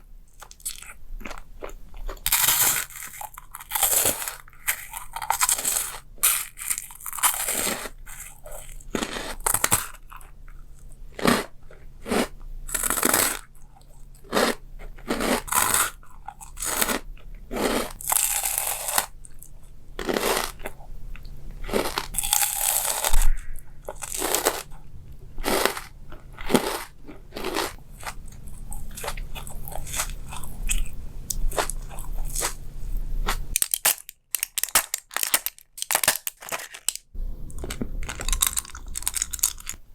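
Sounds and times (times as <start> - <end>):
person chewing crunchy food: 0.2 - 39.9.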